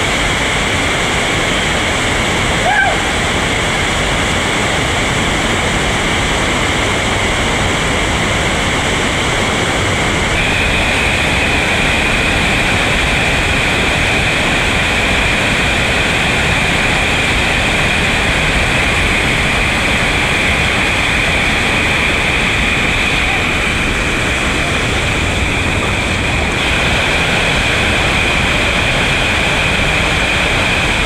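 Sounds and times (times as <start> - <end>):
whitewater rapids rushing: 0.0 - 31.0.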